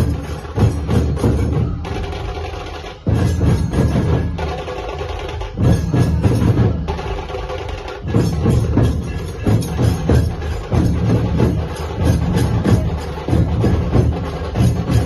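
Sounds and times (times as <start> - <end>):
clashing cymbals: 0.0 - 15.0
deep drums: 0.0 - 15.0
sharp drums: 0.0 - 15.0.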